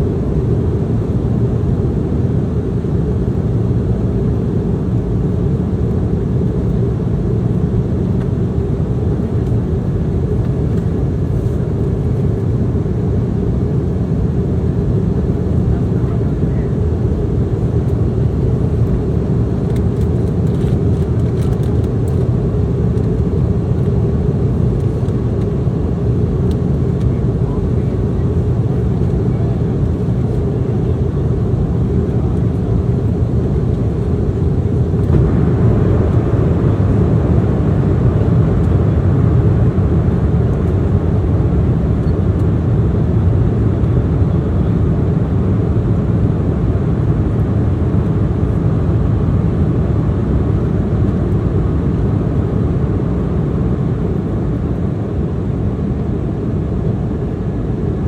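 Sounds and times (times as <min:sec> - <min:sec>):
aircraft cabin air rush: 0:00.0 - 0:58.0
jet engines droning: 0:00.0 - 0:58.0.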